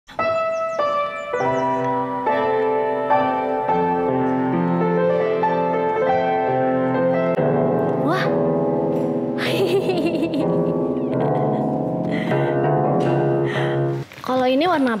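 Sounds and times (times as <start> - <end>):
gentle piano piece: 0.1 - 14.8.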